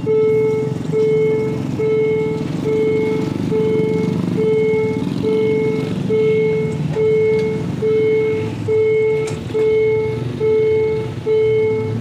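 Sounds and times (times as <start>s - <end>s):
level crossing warning alarm: 0.0s - 12.0s
motorcycle and car engines: 0.0s - 12.0s.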